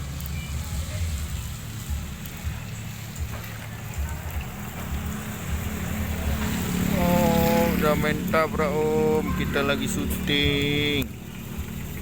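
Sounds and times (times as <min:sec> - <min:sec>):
low uneven rumble: 0:00.0 - 0:12.0.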